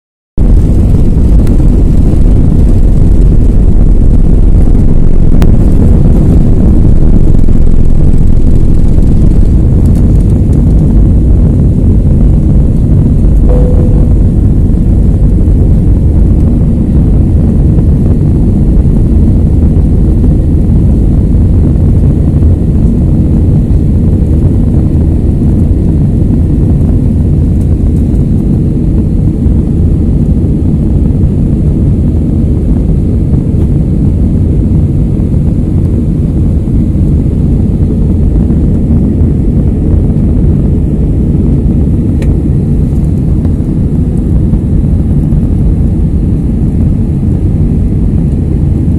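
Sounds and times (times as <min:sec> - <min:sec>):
jet airliner cabin rumble: 0:00.4 - 0:48.9.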